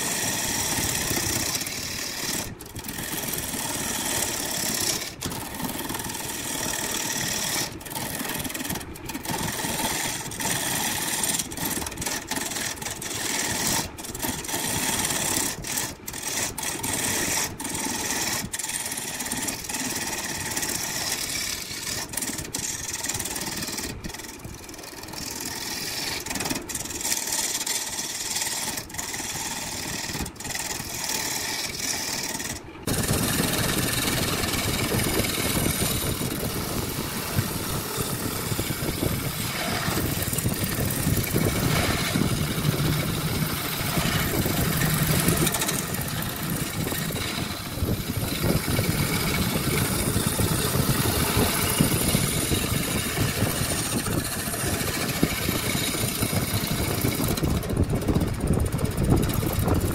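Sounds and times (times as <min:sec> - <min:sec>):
deeper-running machine: 0:00.0 - 0:59.9
machine cutting: 0:00.0 - 0:59.9
power machinery motor running: 0:00.0 - 0:59.9.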